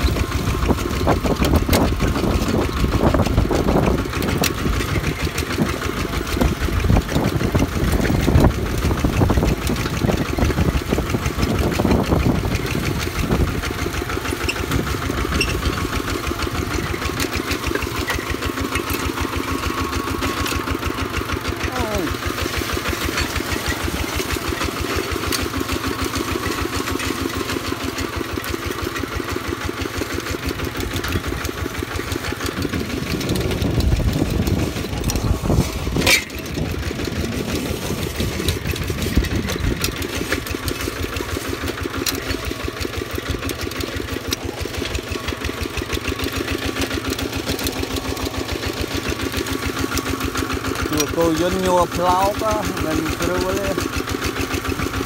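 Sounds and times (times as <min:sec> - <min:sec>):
diesel tractor engine putting: 0:00.0 - 0:55.0.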